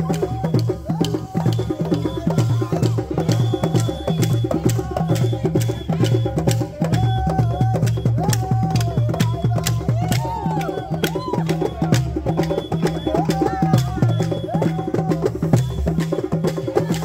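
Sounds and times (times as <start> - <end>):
hand drums: 0.0 - 17.0.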